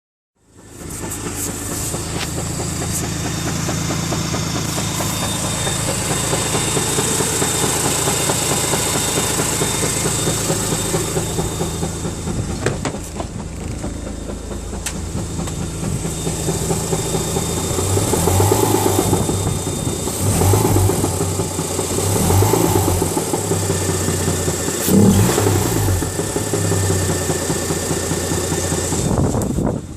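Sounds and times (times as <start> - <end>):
rattling engine revving: 0.5 - 29.9.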